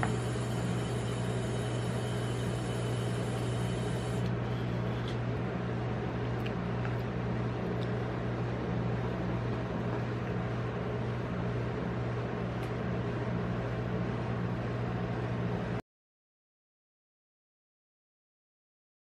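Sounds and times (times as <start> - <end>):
refrigeration compressor hum: 0.0 - 15.8.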